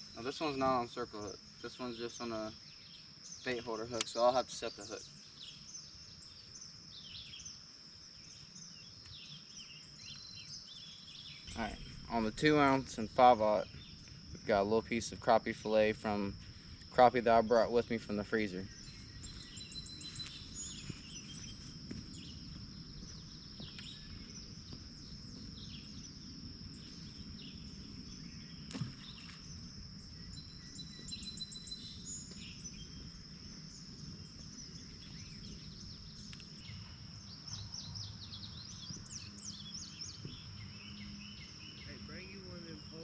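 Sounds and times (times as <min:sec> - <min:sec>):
birds chirping: 0:00.0 - 0:43.0
insect trill: 0:00.0 - 0:43.0.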